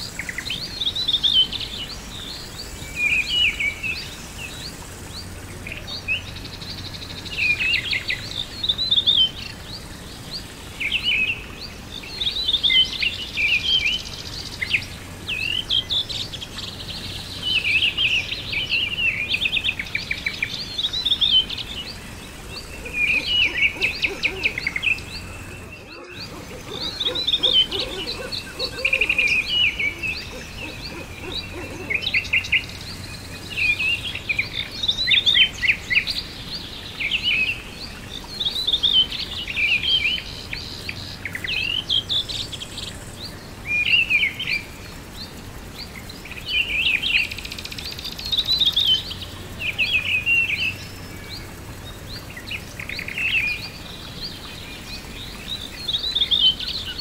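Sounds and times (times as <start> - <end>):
outdoor ambient hiss: 0.0 - 57.0
songbirds chirping and trilling: 0.0 - 57.0.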